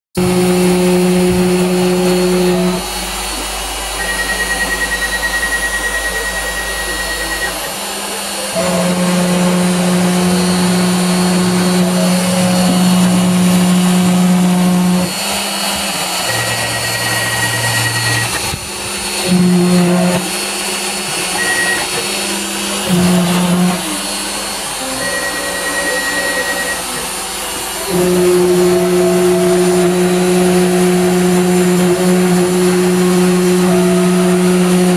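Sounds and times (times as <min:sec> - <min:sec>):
router spindle running: 0:00.2 - 0:34.9
stepper motors whining: 0:00.2 - 0:34.9.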